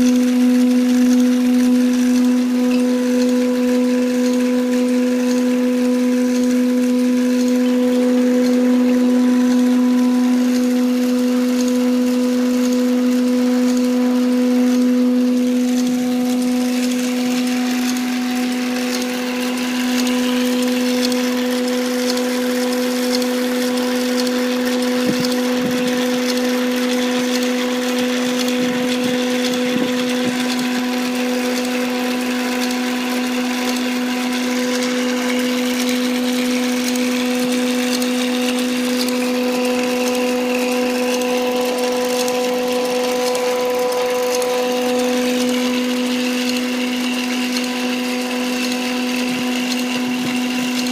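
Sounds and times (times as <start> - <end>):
small electric motor humming: 0.0 - 50.9.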